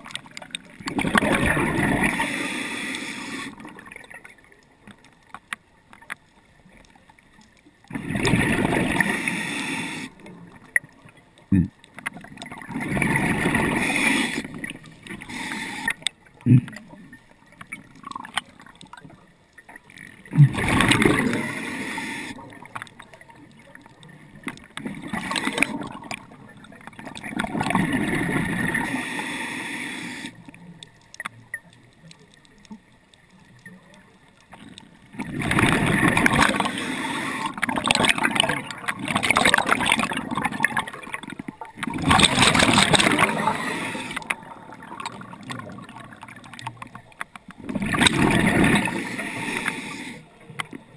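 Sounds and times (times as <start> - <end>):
scuba regulator bubbling: 0.0 - 50.9.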